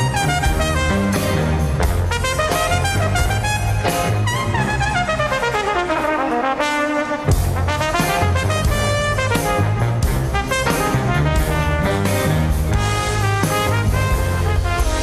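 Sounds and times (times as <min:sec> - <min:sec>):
live brass band playing: 0:00.0 - 0:15.0.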